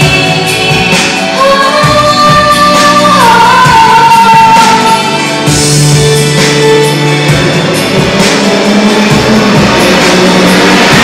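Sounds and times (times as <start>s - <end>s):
amplified backing music: 0.0s - 11.0s.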